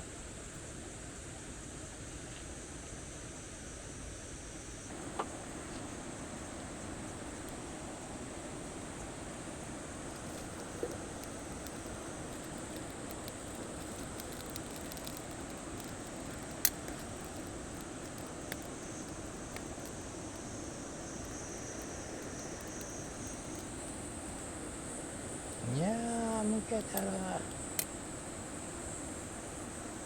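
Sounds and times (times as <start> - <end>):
campfire hissing and crackling: 0.0 - 30.0.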